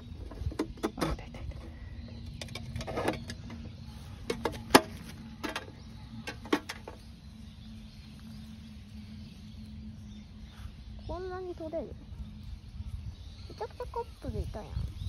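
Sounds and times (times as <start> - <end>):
faint steady hum: 0.0 - 15.0
low rumble: 0.0 - 15.0.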